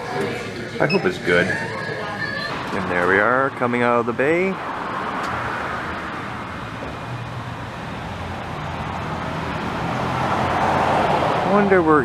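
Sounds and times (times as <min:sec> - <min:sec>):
road traffic with engine hum: 0:00.0 - 0:12.0.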